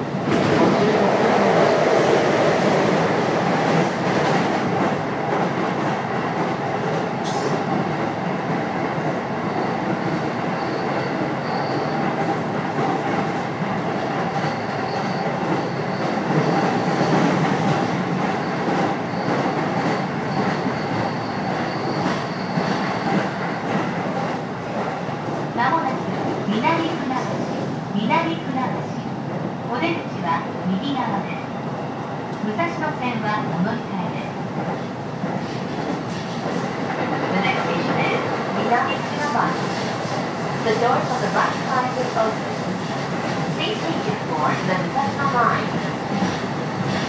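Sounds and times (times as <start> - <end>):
train wheels rolling on rails: 0.0 - 27.7, 34.3 - 47.0.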